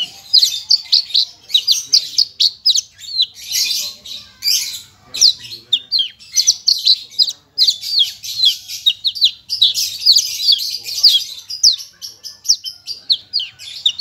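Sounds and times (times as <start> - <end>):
lark singing whistles: 0.0 - 14.0.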